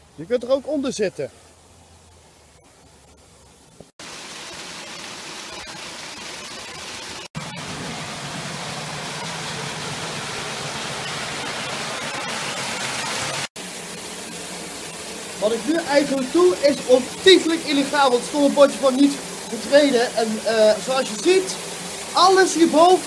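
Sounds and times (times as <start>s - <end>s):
waterfall rushing: 4.0s - 23.0s.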